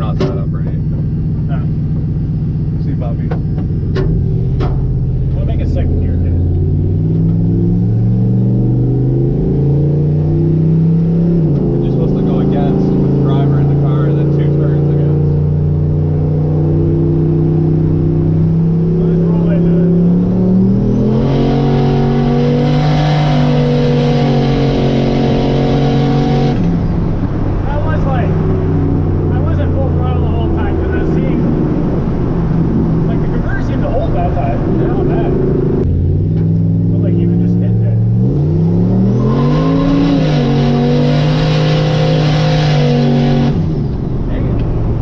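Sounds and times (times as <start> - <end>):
truck engine pulling hard: 0.0 - 45.0.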